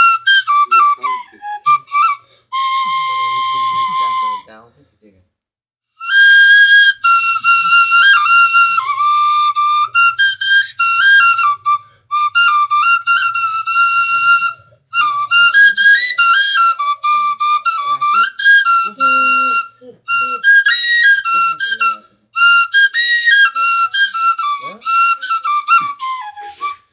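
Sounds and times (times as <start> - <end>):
bamboo flute melody: 0.0 - 4.6, 5.9 - 26.9.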